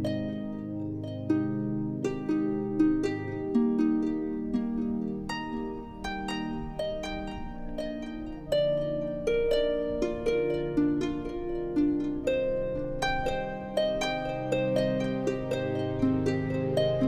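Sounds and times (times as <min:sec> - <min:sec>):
slow plucked melody: 0:00.0 - 0:17.0.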